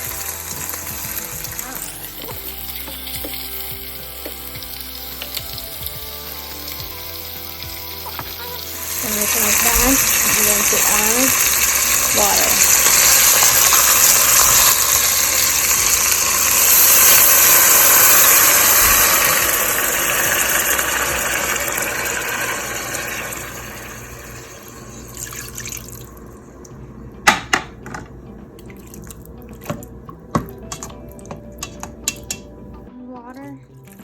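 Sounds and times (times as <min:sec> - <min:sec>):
water pouring into pot: 0:00.0 - 0:26.8, 0:28.6 - 0:32.4.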